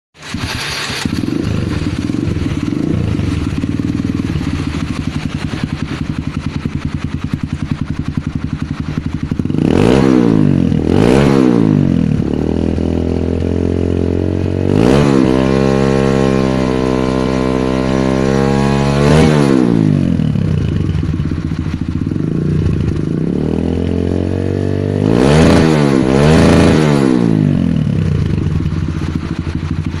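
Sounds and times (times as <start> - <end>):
motorcycle engine idling and revving: 0.2 - 30.0.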